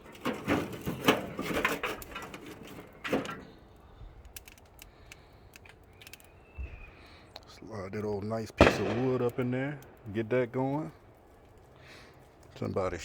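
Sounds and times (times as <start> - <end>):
firewood being handled: 0.0 - 8.4, 9.1 - 13.0
wood fire crackling: 0.0 - 13.0.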